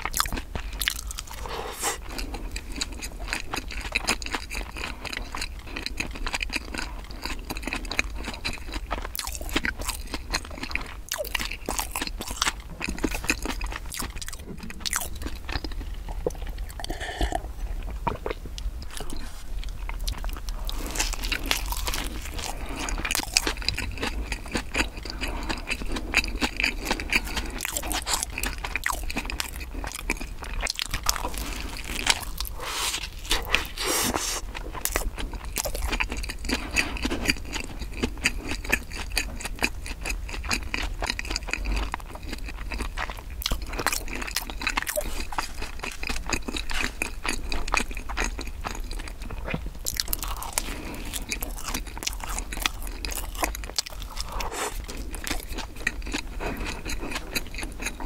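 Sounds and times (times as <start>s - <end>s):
person chewing crusty bread: 0.0s - 58.0s.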